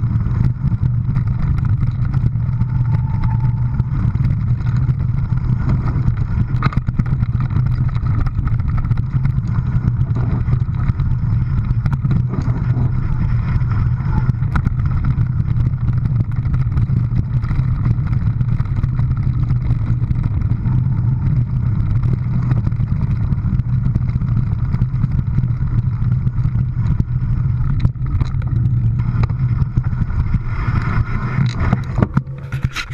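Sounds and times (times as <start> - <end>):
road and wind noise: 0.0 - 32.9
vehicle engine droning: 0.0 - 32.9.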